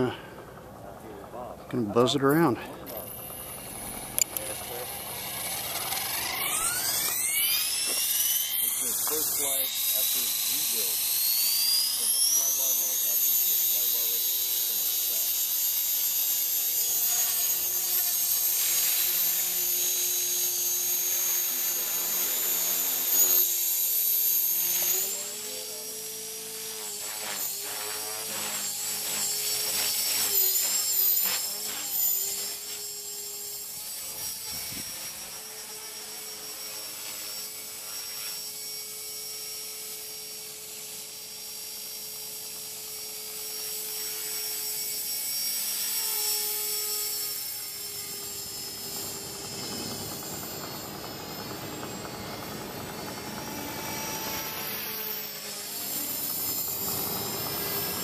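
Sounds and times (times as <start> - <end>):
rc helicopter motor whine: 0.0 - 58.0.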